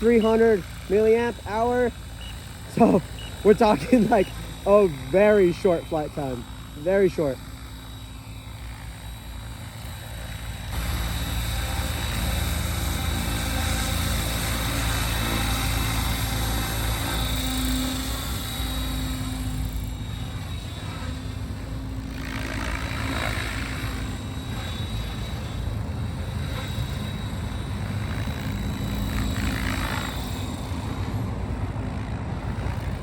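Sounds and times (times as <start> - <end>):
rc helicopter rotor whir: 0.0 - 33.0.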